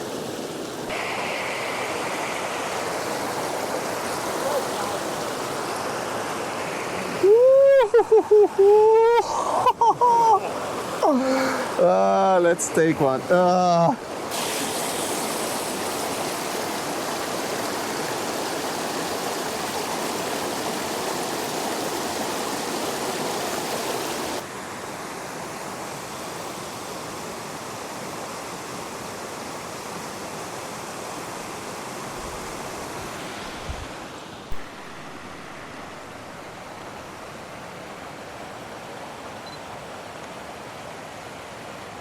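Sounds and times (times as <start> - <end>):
stream rushing over waterfall: 0.0 - 42.0.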